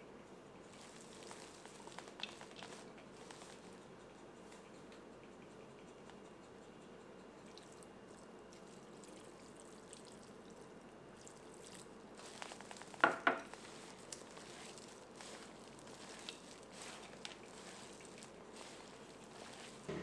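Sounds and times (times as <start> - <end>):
hand mixing food rustling: 0.6 - 4.9, 7.4 - 20.0.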